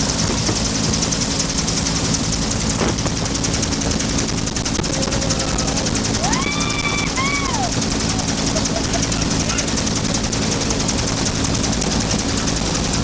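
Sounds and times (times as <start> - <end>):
helicopter rotor beating: 0.0 - 13.0
turbine drone: 0.0 - 13.0.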